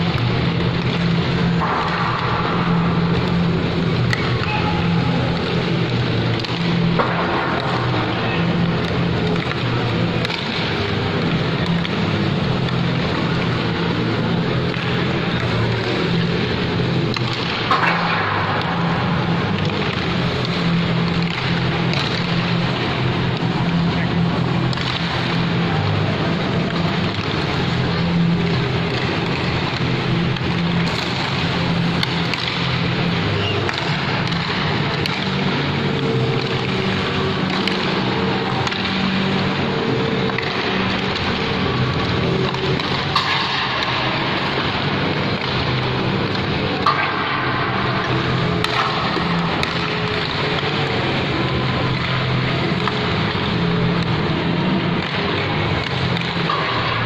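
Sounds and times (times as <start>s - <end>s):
indoor mall background noise: 0.0s - 57.0s
low hum: 0.0s - 57.0s.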